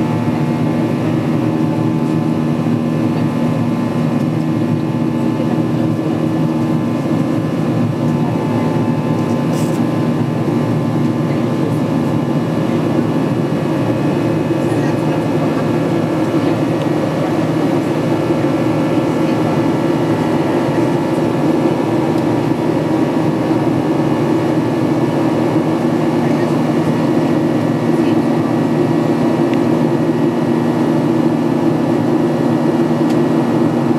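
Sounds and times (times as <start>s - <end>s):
air rushing along fuselage: 0.0s - 33.9s
jet engine hum: 0.0s - 33.9s.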